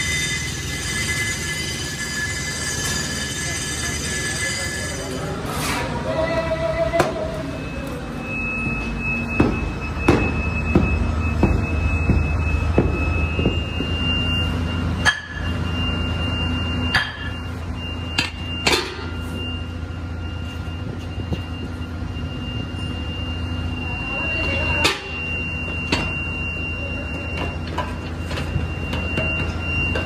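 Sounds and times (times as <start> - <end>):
low workshop hum: 0.0 - 30.0.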